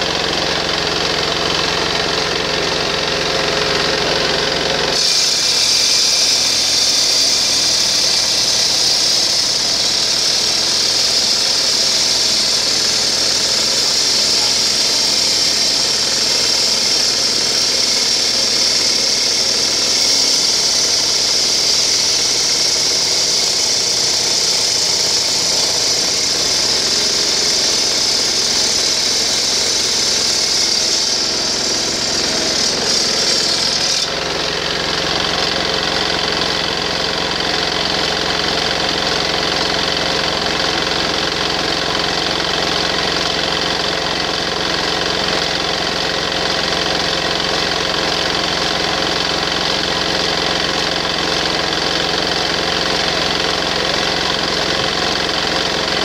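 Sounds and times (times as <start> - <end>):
stone-cutting saw running: 0.0 - 56.0.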